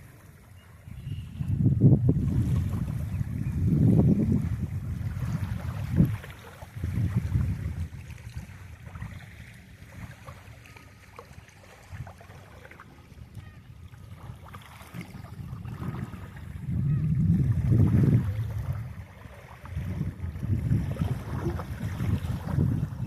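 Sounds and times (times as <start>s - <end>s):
wind rumbling on microphone: 0.0s - 10.7s, 11.3s - 23.0s
small waves on shore: 0.0s - 23.0s.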